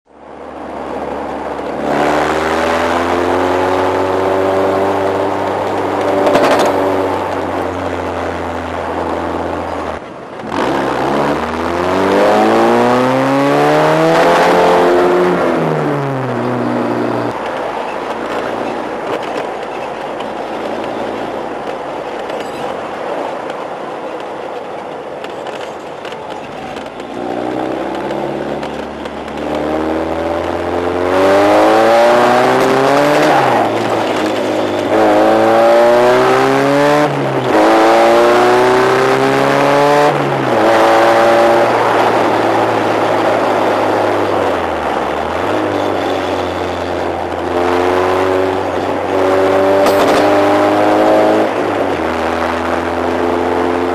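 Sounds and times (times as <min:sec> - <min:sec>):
sports car engine accelerating: 0:00.3 - 0:22.4, 0:26.3 - 0:53.9.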